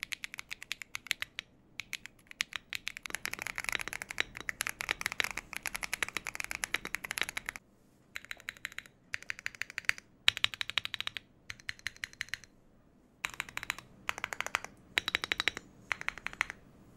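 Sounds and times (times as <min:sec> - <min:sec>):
mechanical keyboard typing: 0:00.0 - 0:07.6, 0:08.2 - 0:12.5, 0:13.2 - 0:16.6.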